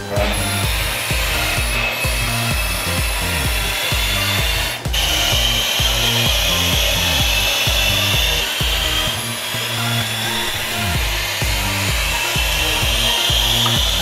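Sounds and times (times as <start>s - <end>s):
car lift hydraulic hiss and whine: 0.0s - 14.0s
electronic music with thumping beat: 0.0s - 14.0s.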